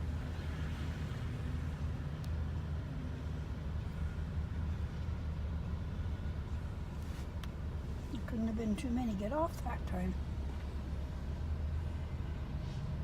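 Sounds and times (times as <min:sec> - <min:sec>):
diesel locomotive idling: 0:01.4 - 0:13.0.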